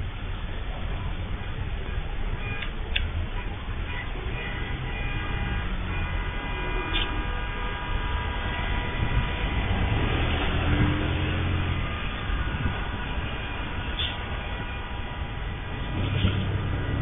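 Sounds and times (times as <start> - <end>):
faint whining tones: 0.0 - 17.0
low vehicle rumble: 0.0 - 17.0.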